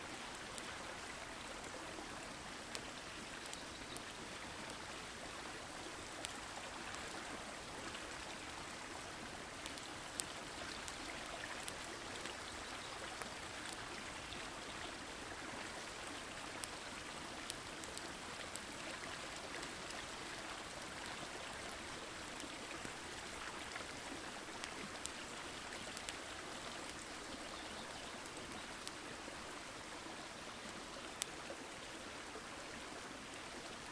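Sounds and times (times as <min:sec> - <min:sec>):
campfire crackling: 0:00.1 - 0:31.8.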